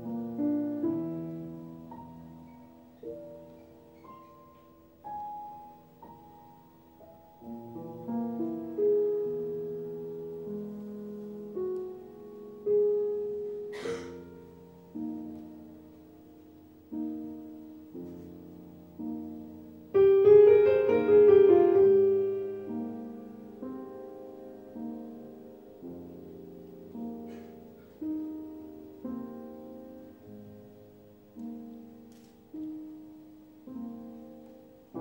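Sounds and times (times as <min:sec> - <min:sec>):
slow piano music: 0:00.0 - 0:35.0.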